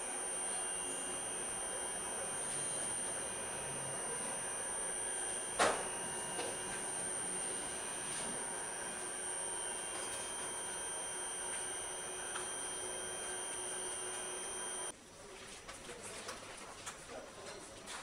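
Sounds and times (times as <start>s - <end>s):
high-pitched electronic whine: 0.0s - 14.9s.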